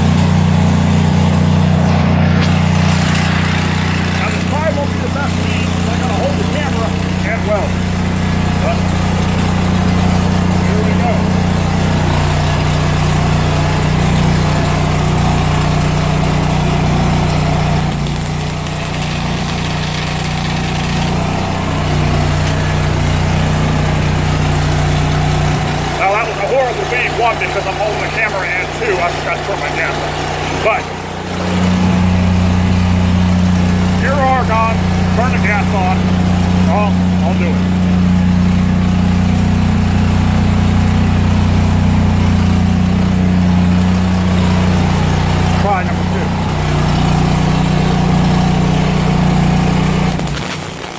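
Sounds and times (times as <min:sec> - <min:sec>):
welder engine running: 0:00.0 - 0:50.9
welding arc buzzing: 0:00.0 - 0:50.9.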